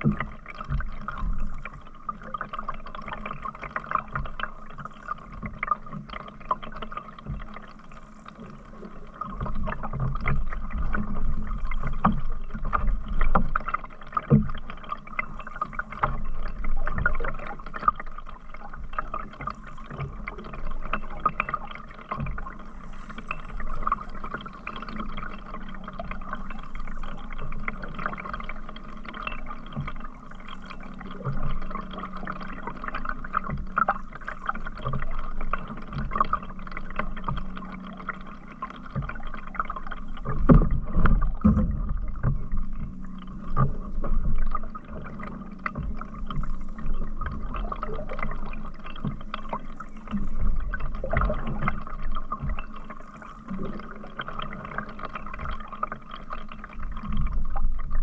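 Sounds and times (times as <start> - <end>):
paddle strokes in water: 0.0 - 58.0
water lapping against hull: 0.0 - 58.0.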